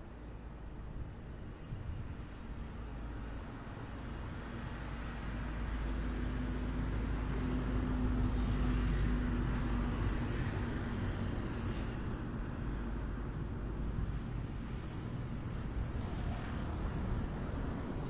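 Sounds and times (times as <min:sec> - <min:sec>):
vehicle engine hum: 0:01.1 - 0:18.0.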